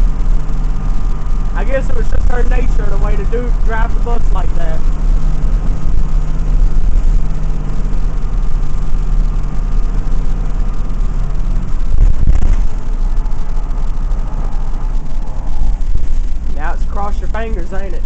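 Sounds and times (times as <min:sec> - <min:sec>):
diesel bus engine running: 0:00.0 - 0:18.0
loud clatter: 0:00.0 - 0:18.0.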